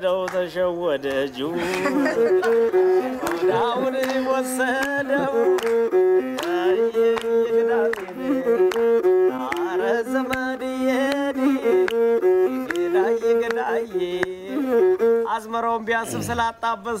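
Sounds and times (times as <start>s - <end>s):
person singing: 0.0s - 17.0s
bowed string melody: 0.7s - 16.5s.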